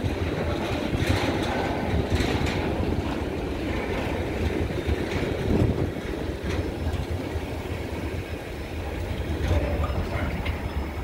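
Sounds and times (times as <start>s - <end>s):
train wheels rumbling on rail: 0.0s - 11.0s
wheel clacks over rail joints: 0.0s - 11.0s.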